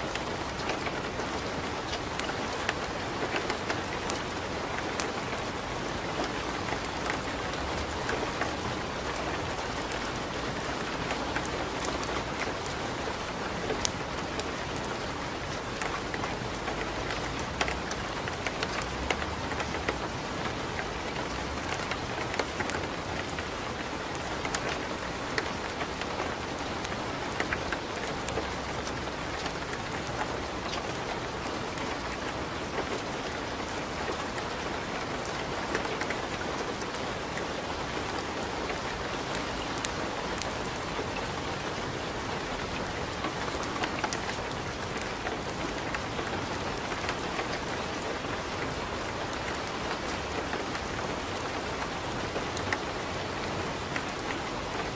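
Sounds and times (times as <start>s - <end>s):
steady rain: 0.0s - 54.9s
fireplace fire crackling: 0.1s - 54.4s.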